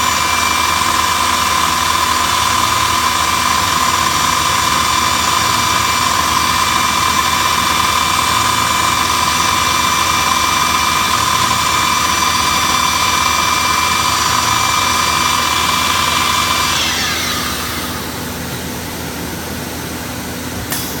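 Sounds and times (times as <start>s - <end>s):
router spindle whining: 0.0s - 20.2s
steady machine noise: 0.0s - 21.0s.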